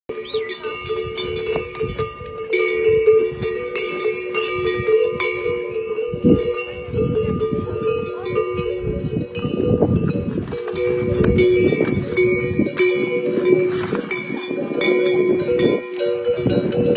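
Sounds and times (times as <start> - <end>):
yak bells clanging: 0.1 - 16.9.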